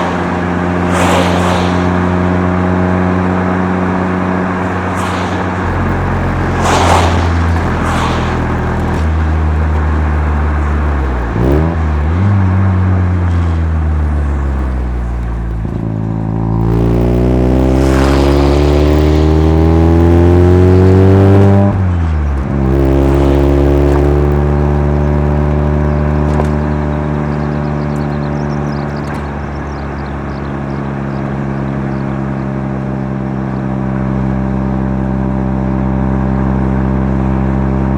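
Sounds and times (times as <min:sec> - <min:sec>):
rotary engine accelerating: 0:00.0 - 0:37.9.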